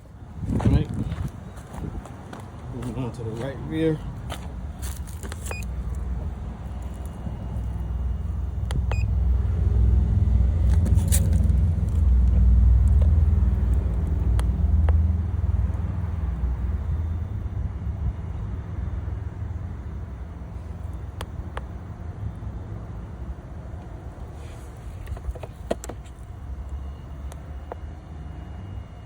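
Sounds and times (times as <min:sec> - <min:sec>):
car engine rumbling: 0:00.0 - 0:29.0.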